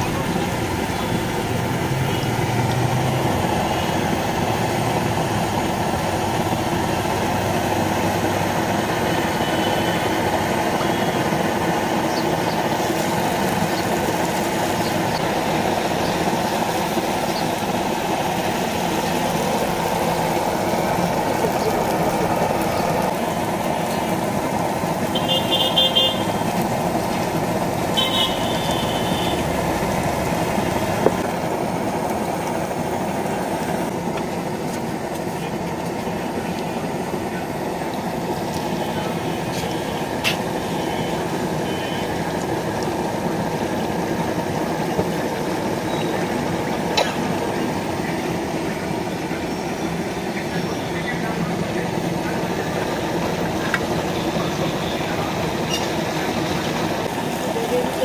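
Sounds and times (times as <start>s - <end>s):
batter frying in hot oil: 0.0s - 58.0s
street traffic: 0.0s - 58.0s.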